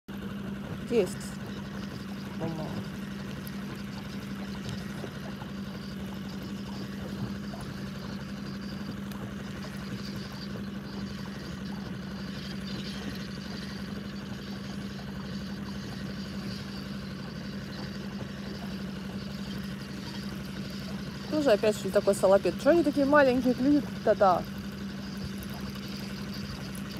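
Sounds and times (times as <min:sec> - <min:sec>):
outboard motor humming: 0:00.1 - 0:26.9.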